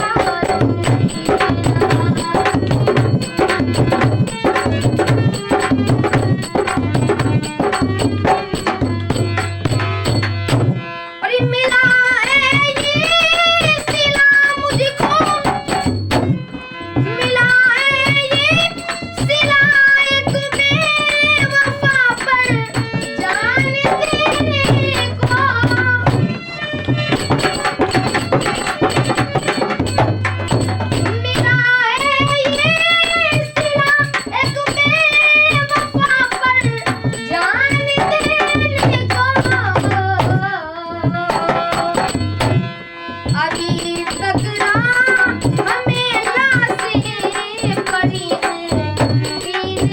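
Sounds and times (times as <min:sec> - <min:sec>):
accompanying instruments: 0:00.0 - 0:49.9
tabla rhythm: 0:00.0 - 0:49.9.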